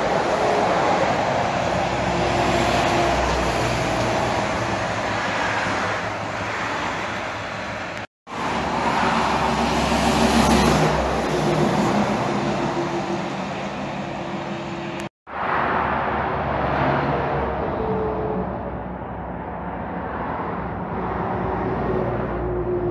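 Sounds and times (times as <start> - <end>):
highway traffic passing: 0.0 - 22.9.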